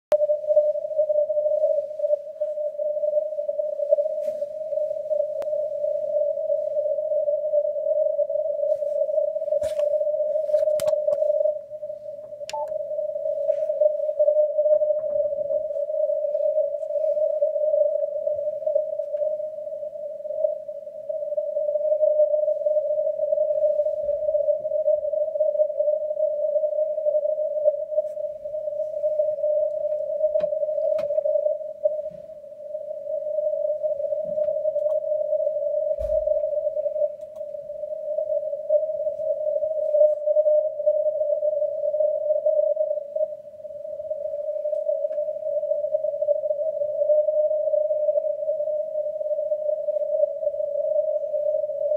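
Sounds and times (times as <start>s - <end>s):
hissy radio band noise tone: 0.1s - 51.9s
weak morse code signal: 0.1s - 51.9s.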